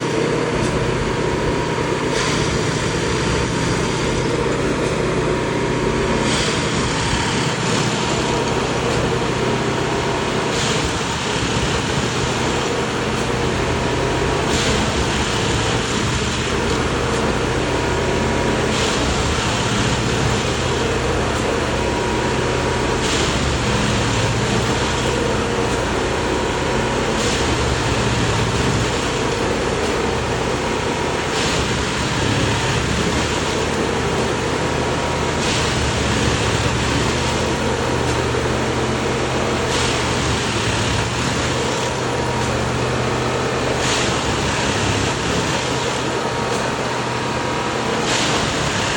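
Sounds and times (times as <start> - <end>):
machine engine humming: 0.0 - 48.9.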